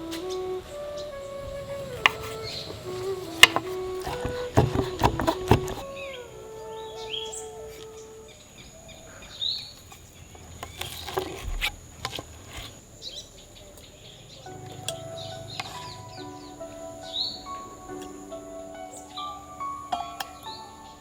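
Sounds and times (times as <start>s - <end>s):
birds chirping: 0.0s - 12.0s, 12.7s - 21.0s.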